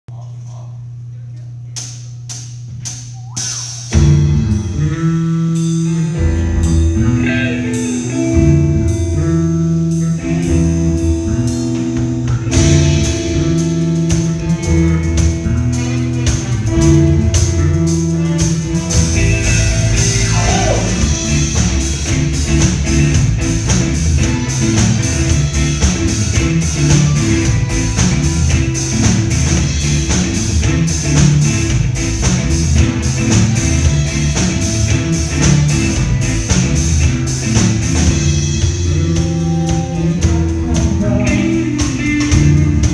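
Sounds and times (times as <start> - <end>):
rock band playing: 2.3 - 42.9.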